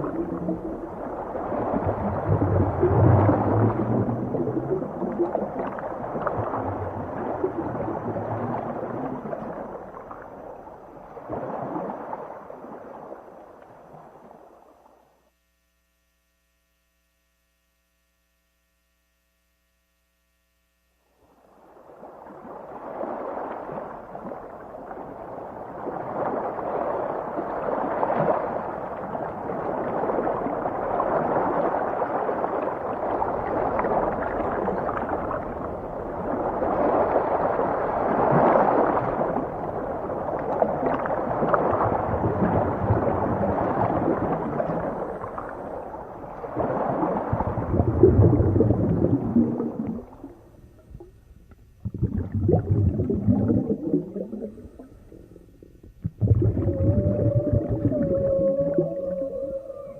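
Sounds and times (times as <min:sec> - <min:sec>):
underwater rushing and gurgling: 0:00.0 - 0:14.8, 0:21.3 - 0:59.9.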